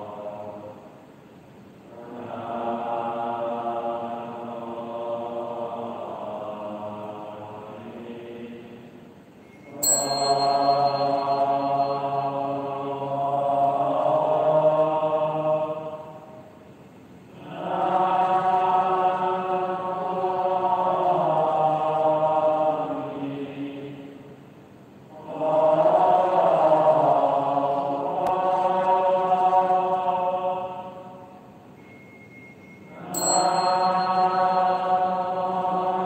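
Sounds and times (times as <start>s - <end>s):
slow chanting: 0.0s - 36.0s.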